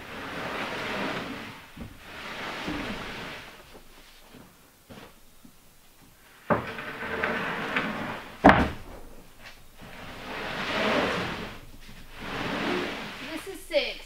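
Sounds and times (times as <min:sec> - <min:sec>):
plywood sheets scraping: 0:00.0 - 0:05.4, 0:06.2 - 0:13.7.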